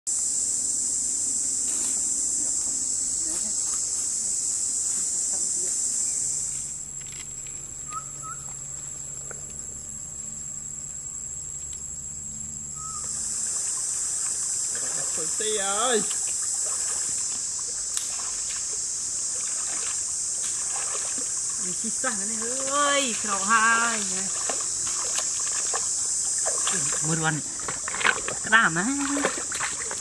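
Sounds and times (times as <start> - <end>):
insects buzzing loudly: 0.1 - 30.0
insects whining: 0.1 - 30.0
short insect chirps: 0.1 - 30.0.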